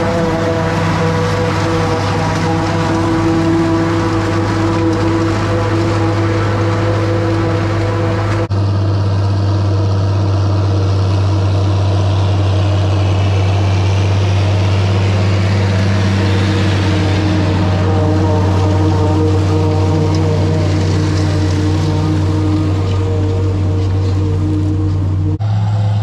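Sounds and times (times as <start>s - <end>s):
forage harvester chopping corn: 0.0s - 26.0s
tractor diesel engine: 0.0s - 26.0s.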